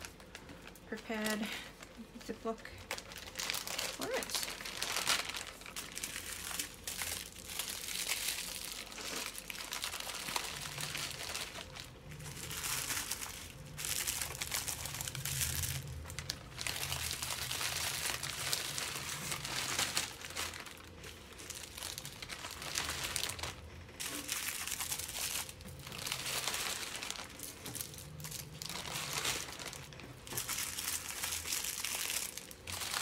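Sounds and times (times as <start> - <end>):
plastic packets crinkling: 0.0 - 33.0.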